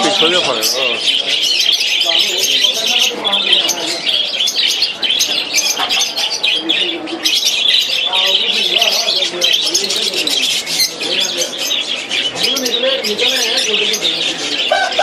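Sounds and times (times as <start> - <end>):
birds chirping: 0.0 - 15.0
low bird calls: 0.0 - 15.0.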